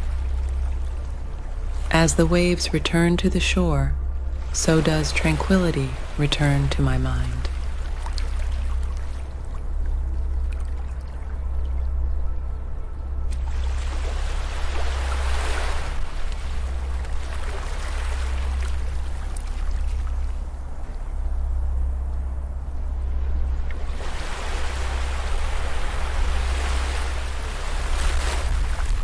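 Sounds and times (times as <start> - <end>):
low rumble: 0.0 - 29.0.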